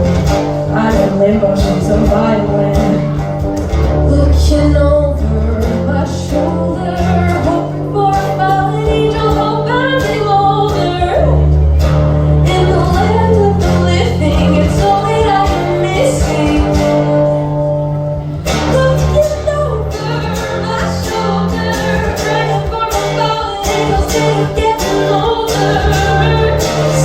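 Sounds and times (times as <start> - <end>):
person singing: 0.0 - 11.5, 12.4 - 17.9, 18.5 - 27.0
bass line: 0.0 - 27.0
guitars: 0.0 - 27.0.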